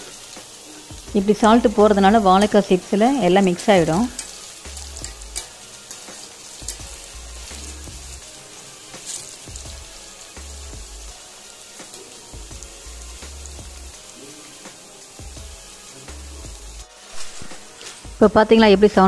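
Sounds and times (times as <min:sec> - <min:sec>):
wire skimmer stirring: 0:00.0 - 0:17.0
deep-frying sizzle with crackles: 0:00.0 - 0:19.0.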